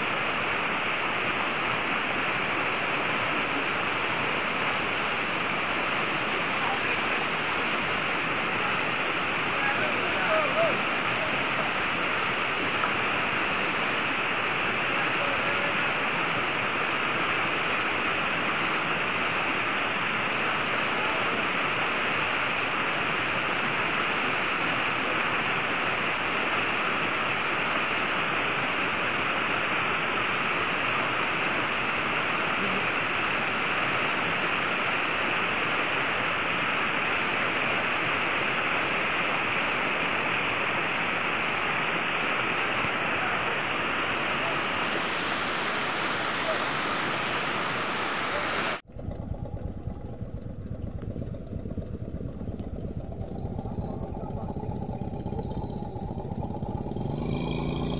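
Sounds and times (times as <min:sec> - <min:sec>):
stream rushing over rocks: 0:00.0 - 0:48.8.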